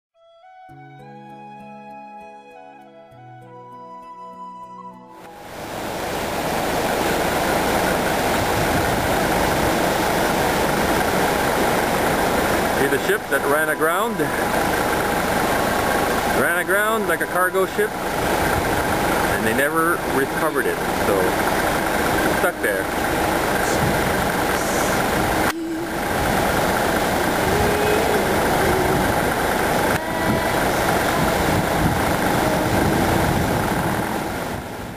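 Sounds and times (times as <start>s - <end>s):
vehicle rumbling in motion: 5.4s - 34.9s.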